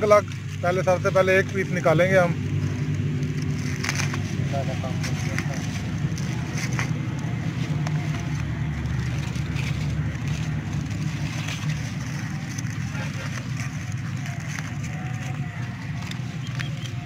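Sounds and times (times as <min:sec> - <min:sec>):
aluminium foil crinkling and tearing: 0:00.0 - 0:17.0.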